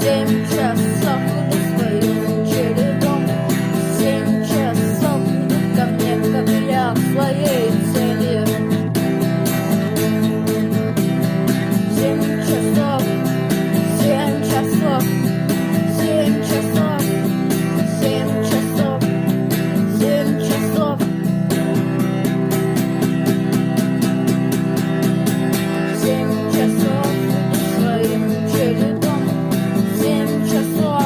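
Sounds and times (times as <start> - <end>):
bass: 0.0 - 31.0
lead guitar with bending notes: 0.0 - 31.0
strummed guitar: 0.0 - 31.0.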